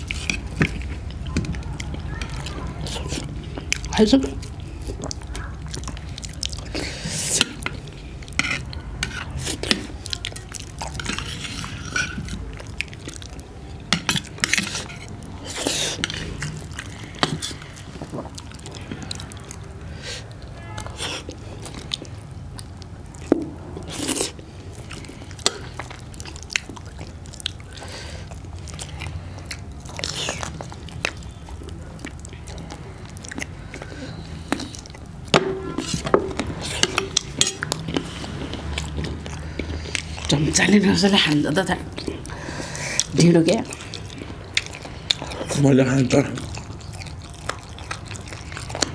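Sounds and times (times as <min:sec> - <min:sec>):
chewing and lip smacking: 0:00.0 - 0:48.9.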